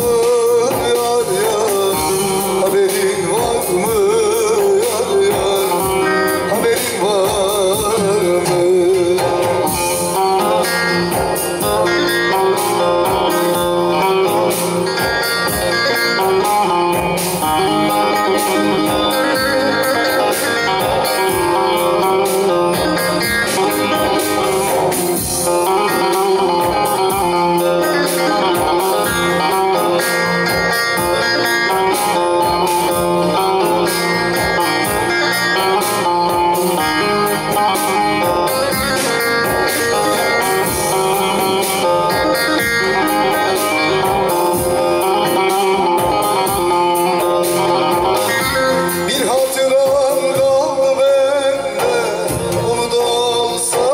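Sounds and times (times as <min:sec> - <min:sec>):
long-necked lute plucked fast: 0:00.0 - 0:51.0.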